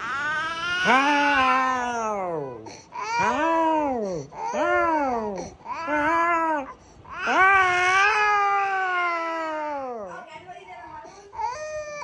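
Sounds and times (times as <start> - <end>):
toddler crying: 0.0 - 10.0.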